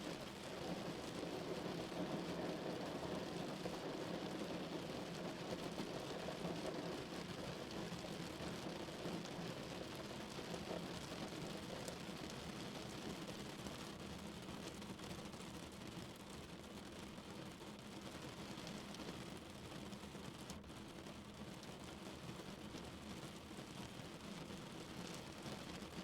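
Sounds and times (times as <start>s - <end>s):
rain on a car roof: 0.0s - 26.0s.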